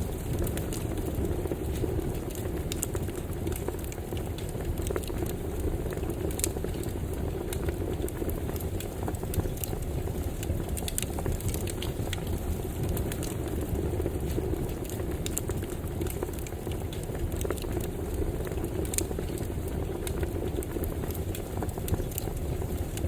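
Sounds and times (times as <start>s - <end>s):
burning wood crackling and popping: 0.0s - 23.0s
campfire burning: 0.0s - 23.0s.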